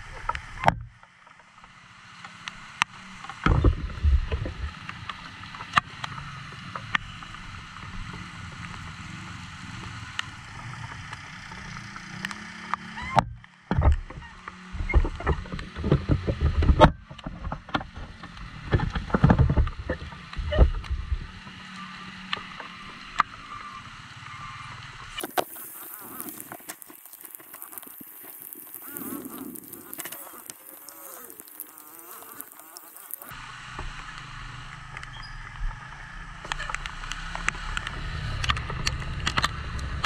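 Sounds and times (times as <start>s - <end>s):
rain and wet tyres hiss: 0.0s - 16.5s, 17.2s - 40.0s.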